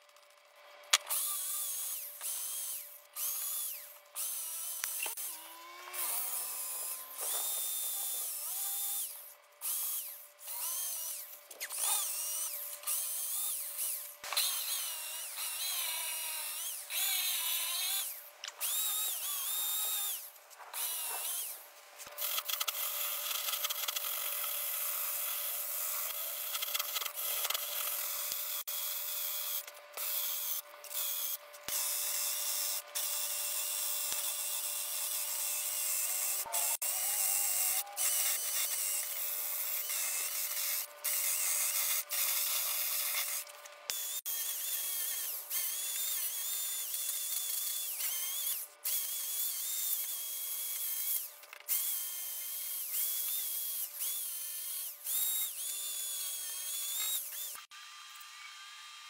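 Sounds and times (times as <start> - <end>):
power tool whining on wood: 0.0 - 59.0.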